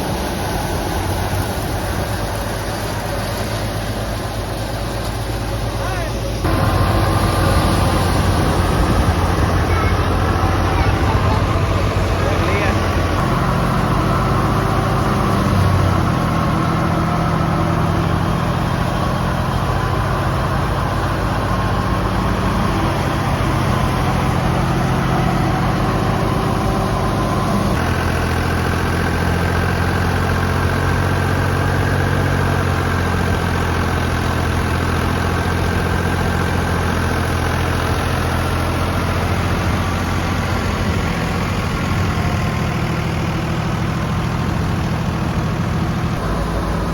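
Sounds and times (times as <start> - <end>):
engine hum: 0.0 - 46.9
wheat thresher running: 0.0 - 46.9.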